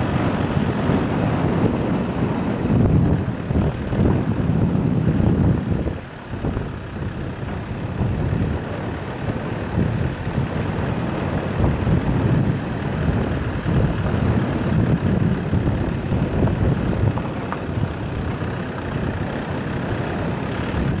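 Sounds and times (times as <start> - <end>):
vehicle driving on dirt road: 0.0 - 21.0.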